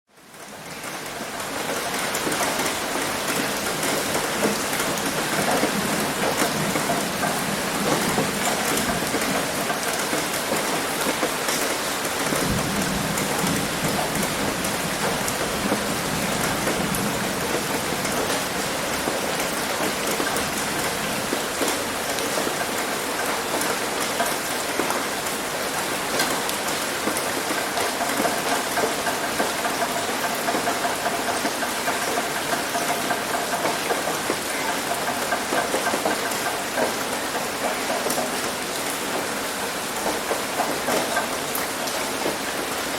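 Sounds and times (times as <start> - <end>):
rain on a roof: 0.1 - 42.9.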